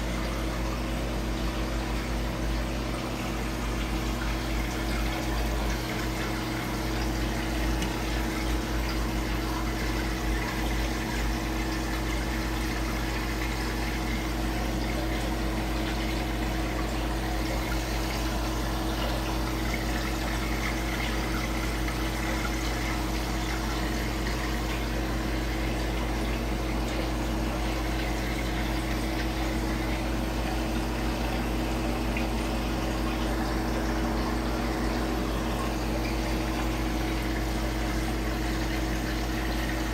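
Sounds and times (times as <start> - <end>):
pump motor hum: 0.0 - 39.9
water flowing: 0.0 - 39.9.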